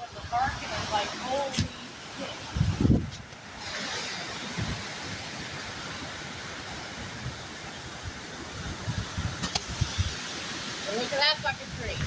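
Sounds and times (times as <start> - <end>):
storm wind rushing through trees: 0.0 - 12.0
wind buffeting microphone: 0.0 - 12.0.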